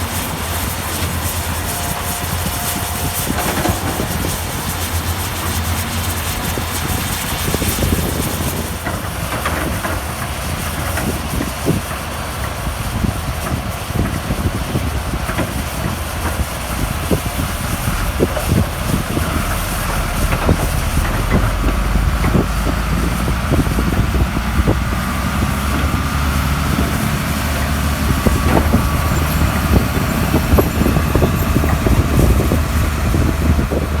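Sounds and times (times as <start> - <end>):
diesel machinery engine drone: 0.0 - 34.0.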